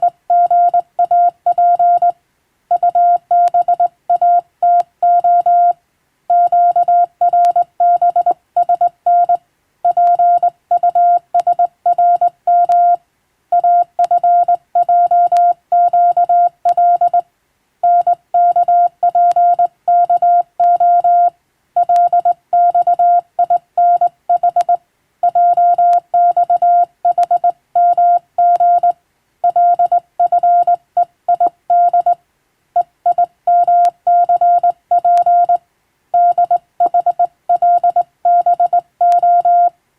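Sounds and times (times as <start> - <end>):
morse code beeps: 0.0 - 17.2, 17.8 - 32.2, 32.8 - 35.6, 36.2 - 39.7.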